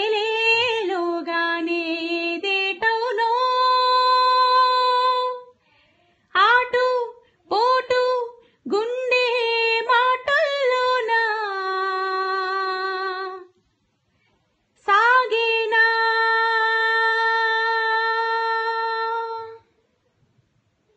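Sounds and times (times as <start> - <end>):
woman singing unaccompanied: 0.0 - 5.6, 6.3 - 13.6, 14.8 - 19.7.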